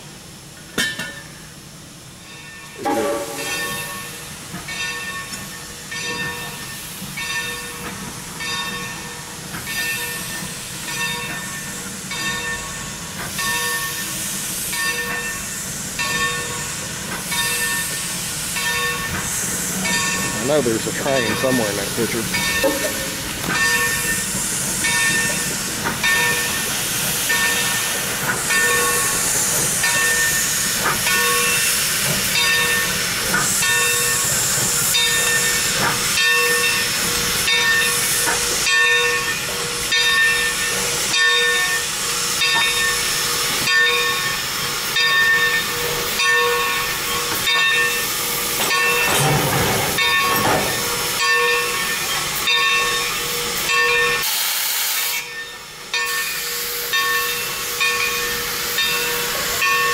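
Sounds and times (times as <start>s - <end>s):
steam hissing: 0.0s - 59.9s
locomotive bell ringing: 2.2s - 27.8s, 28.5s - 29.2s, 29.8s - 33.0s, 33.6s - 54.3s, 55.2s - 59.9s.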